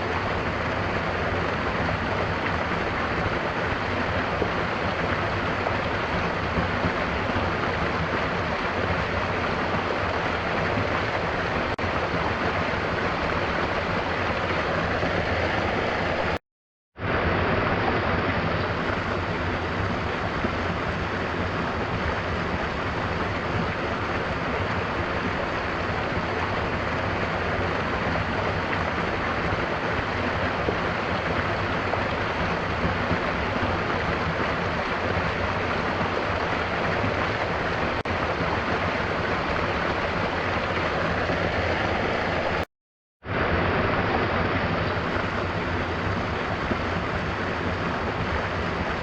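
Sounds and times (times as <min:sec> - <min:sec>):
gentle rain falling: 0:00.0 - 0:16.4, 0:17.0 - 0:49.0
waterfall rushing: 0:00.0 - 0:16.4, 0:17.0 - 0:42.7, 0:43.3 - 0:49.0.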